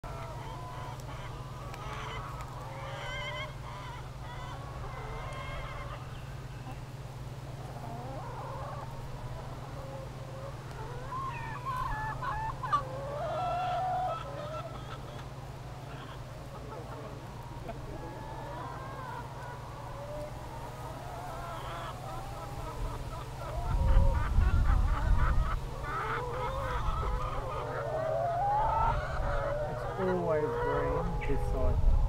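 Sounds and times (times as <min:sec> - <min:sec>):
hens clucking and calling: 0:00.0 - 0:32.0.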